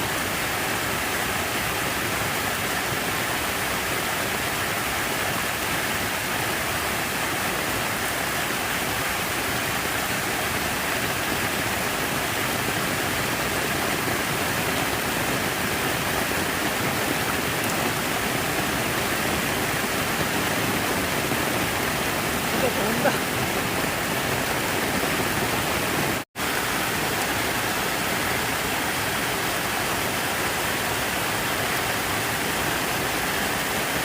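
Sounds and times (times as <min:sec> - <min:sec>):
rushing water: 0:00.0 - 0:34.0.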